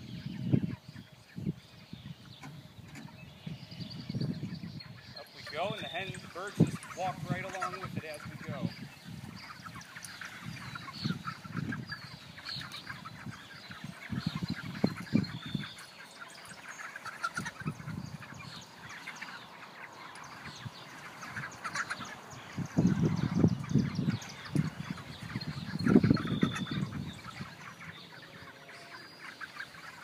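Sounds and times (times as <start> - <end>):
chickens peeping and clucking: 0.0 - 30.0.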